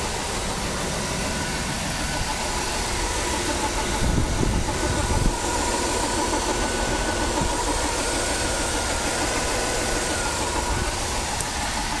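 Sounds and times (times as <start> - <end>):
car engine running: 0.0 - 12.0
faint steady whine: 0.0 - 12.0.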